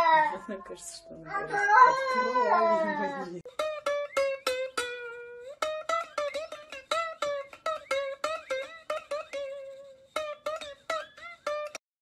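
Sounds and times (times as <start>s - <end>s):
plucked-string melody: 0.0s - 11.8s.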